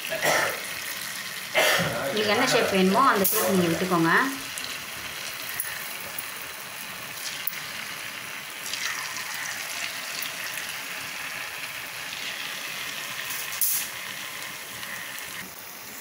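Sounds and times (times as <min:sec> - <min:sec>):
dough deep-frying in oil: 0:00.0 - 0:16.0.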